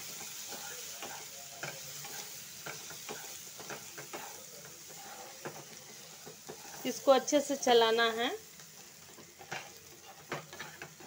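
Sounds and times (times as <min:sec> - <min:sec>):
spatula scraping a pan: 0:00.0 - 0:07.4, 0:08.5 - 0:11.0
masala sizzling: 0:00.0 - 0:11.0.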